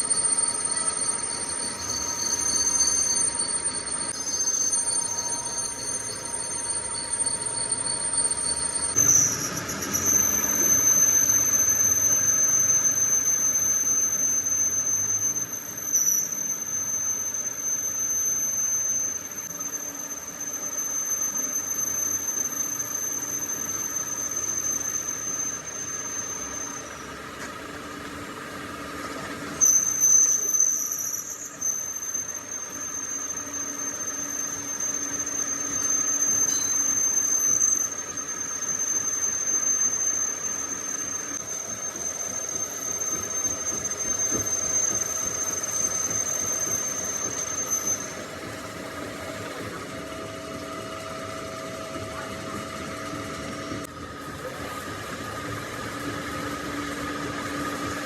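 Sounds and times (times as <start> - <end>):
cutting tool squealing on steel: 0.0 - 27.5, 29.0 - 53.9.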